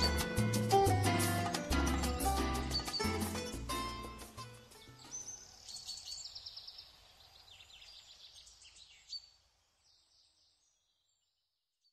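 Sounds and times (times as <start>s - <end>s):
faint birdsong chirps and trills: 1.8s - 11.9s.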